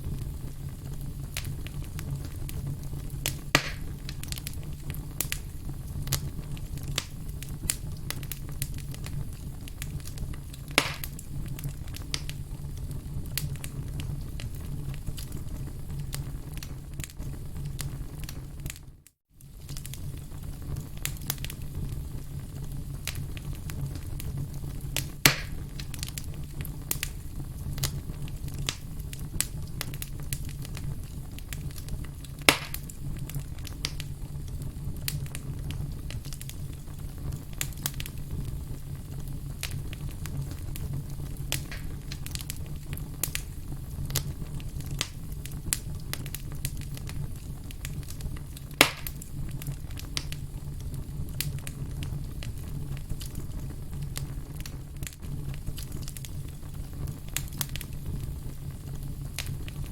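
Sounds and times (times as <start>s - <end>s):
burning wood rumble: 0.0s - 59.9s
campfire crackling: 0.0s - 59.9s
sharp fire pops: 0.0s - 59.9s.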